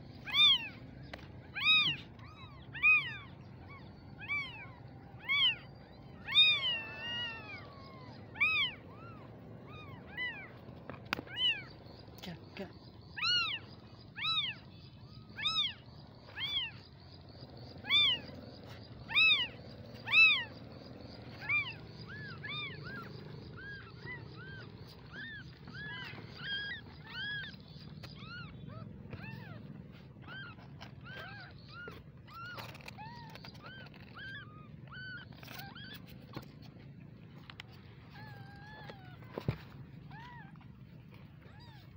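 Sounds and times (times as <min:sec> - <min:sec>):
kittens mewing: 0:00.0 - 0:41.9.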